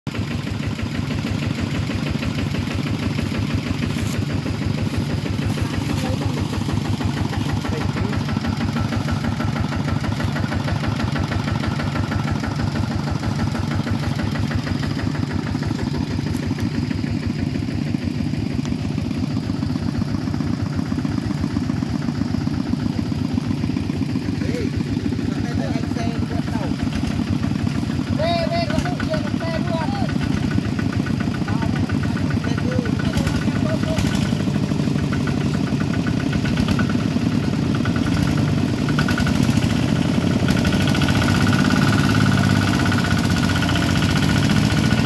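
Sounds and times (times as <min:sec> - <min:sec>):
diesel tractor engine running: 0:00.1 - 0:45.0.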